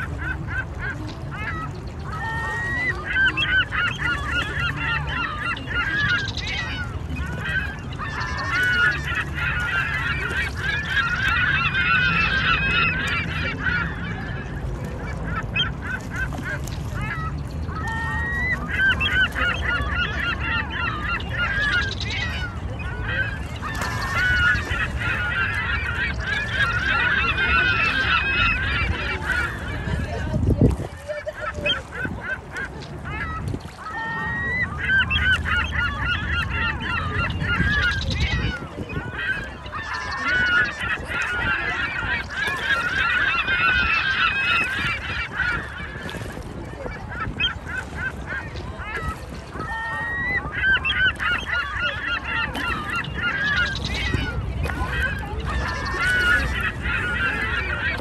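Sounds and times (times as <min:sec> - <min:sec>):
ducks calling: 0:00.0 - 0:58.0
ducks scuffling on water: 0:00.0 - 0:58.0
wind rumble on microphone: 0:00.0 - 0:58.0.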